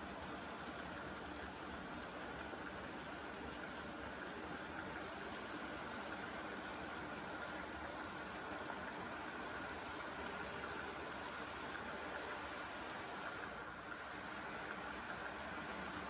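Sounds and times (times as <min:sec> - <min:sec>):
model train wheels rolling on rails: 0:00.0 - 0:16.0.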